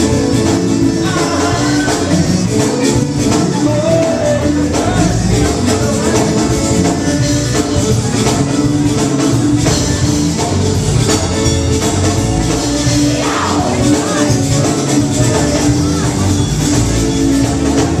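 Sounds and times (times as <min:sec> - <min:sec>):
accordion: 0:00.0 - 0:18.0
drums: 0:00.0 - 0:18.0
electric guitar: 0:00.0 - 0:18.0
rubboard scraping rhythm: 0:00.0 - 0:18.0.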